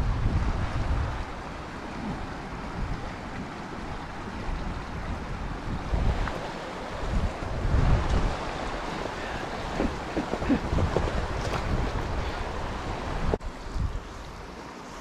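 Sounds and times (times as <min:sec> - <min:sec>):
wind buffeting microphone: 0:00.0 - 0:14.2
river water rushing: 0:00.0 - 0:15.0.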